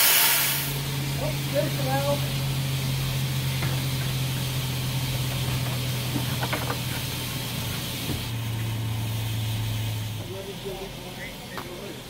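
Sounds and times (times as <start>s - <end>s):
low hum: 0.0s - 11.6s
steam hissing: 0.0s - 12.0s.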